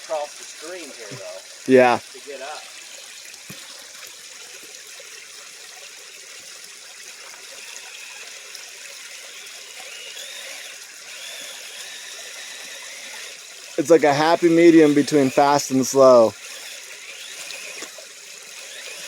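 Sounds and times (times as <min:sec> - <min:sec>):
stream trickling over rocks: 0:00.0 - 0:19.0.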